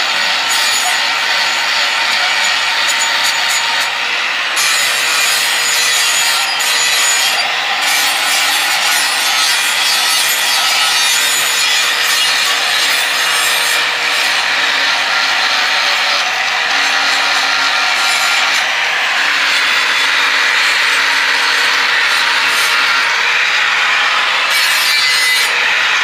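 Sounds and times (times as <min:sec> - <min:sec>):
angle grinder grinding metal: 0:00.0 - 0:26.0.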